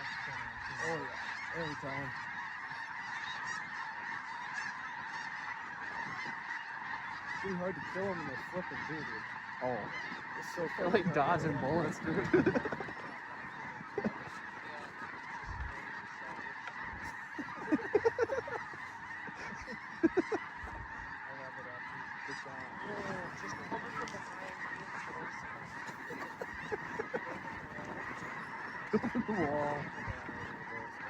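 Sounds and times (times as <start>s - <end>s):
flock of geese honking: 0.0s - 31.0s
loud single goose honks: 0.0s - 31.0s.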